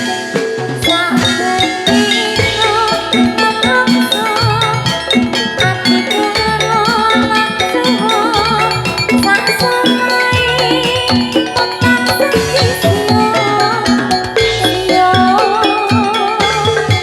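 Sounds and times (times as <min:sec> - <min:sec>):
mallet metallophones: 0:00.0 - 0:17.0.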